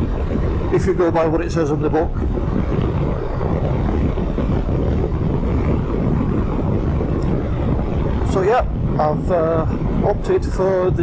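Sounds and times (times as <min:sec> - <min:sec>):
motorcycle engine running: 0:00.0 - 0:10.2
road noise: 0:00.0 - 0:11.0
wind noise: 0:00.0 - 0:11.0.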